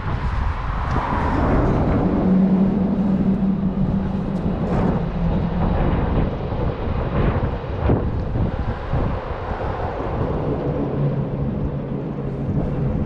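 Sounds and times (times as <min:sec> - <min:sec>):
low traffic rumble: 0:00.0 - 0:13.0
steady low hum: 0:00.0 - 0:13.0
wind buffeting microphone: 0:00.0 - 0:13.0.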